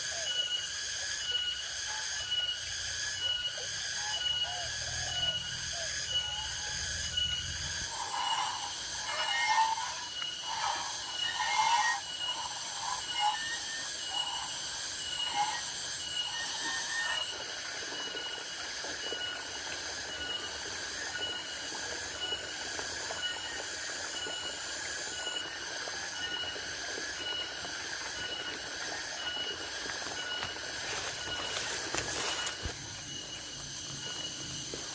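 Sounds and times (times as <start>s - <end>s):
insects trilling: 0.0s - 34.9s
lower insect call in bursts: 0.0s - 34.9s.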